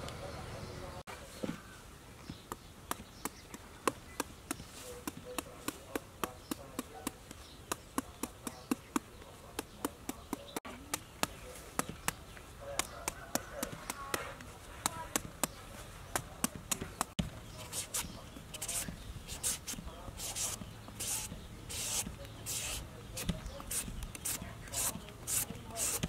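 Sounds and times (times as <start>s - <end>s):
cleaver chopping papaya: 2.3s - 26.0s.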